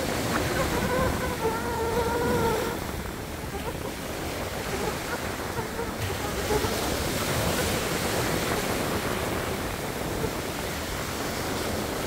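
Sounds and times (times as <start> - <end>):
sea surf washing ashore: 0.0 - 12.0.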